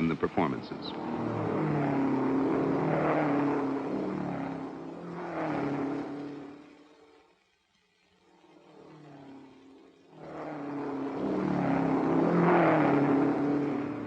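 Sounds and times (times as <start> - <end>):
racing cars passing by: 0.0 - 7.4, 8.2 - 14.0.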